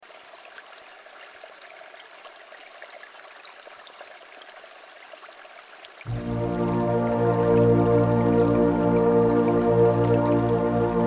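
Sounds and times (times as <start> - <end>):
river water flowing and trickling: 0.0 - 11.0.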